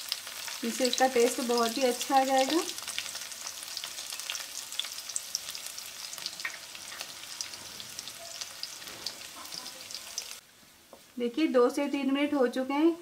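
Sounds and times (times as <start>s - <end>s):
spices sizzling in oil: 0.0s - 10.4s.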